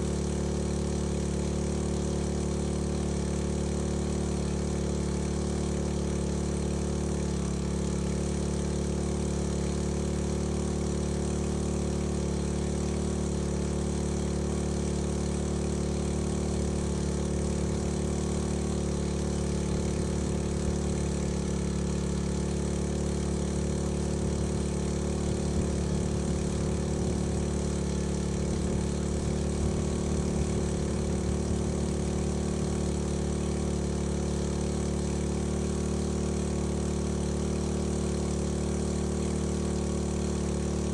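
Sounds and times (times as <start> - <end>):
small engine running steadily: 0.0 - 40.9.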